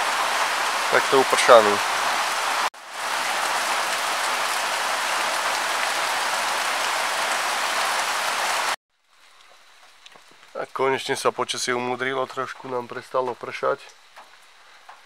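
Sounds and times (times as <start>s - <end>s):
heavy rain pouring: 0.0s - 15.0s
runoff water splashing: 0.0s - 15.0s.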